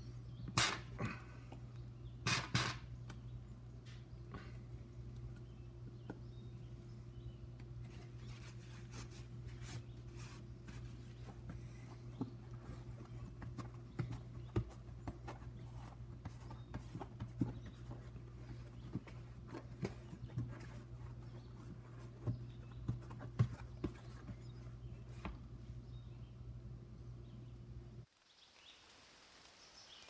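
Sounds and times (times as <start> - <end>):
steady low hum: 0.0 - 28.1.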